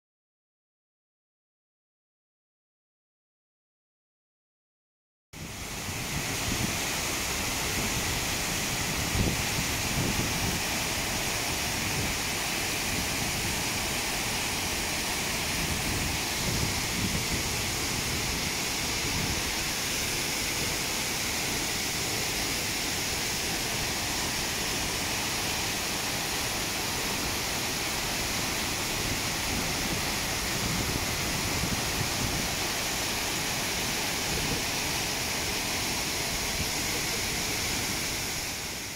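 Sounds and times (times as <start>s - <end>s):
waterfall rushing: 5.4s - 38.9s.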